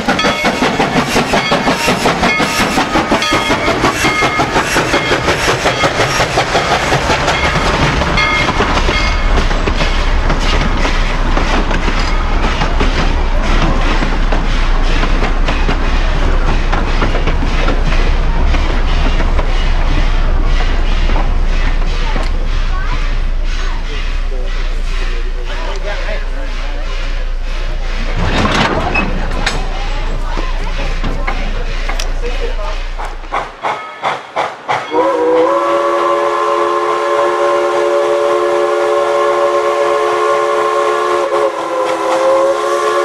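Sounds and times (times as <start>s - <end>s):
moving train running: 0.0s - 43.0s
steam locomotive exhaust beats: 0.0s - 43.0s.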